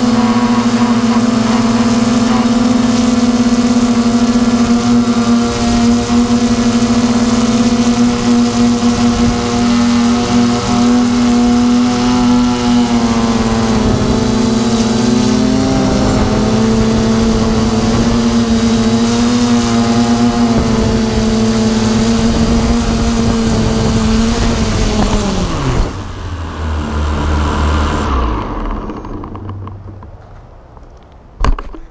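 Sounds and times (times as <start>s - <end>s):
drone motors and propellers humming: 0.0s - 31.9s.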